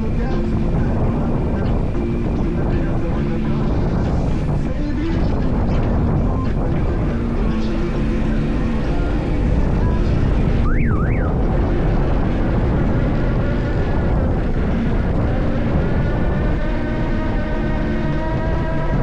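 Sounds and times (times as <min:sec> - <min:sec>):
boat engine and hauler drone: 0:00.0 - 0:19.0
multi-tone whine: 0:00.0 - 0:19.0.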